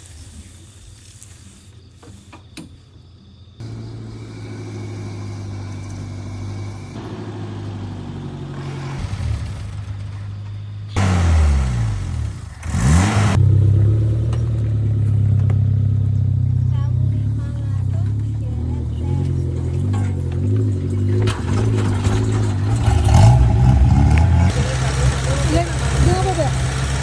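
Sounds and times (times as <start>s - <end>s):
car engine idling: 3.4s - 27.0s
engine revving: 3.6s - 27.0s.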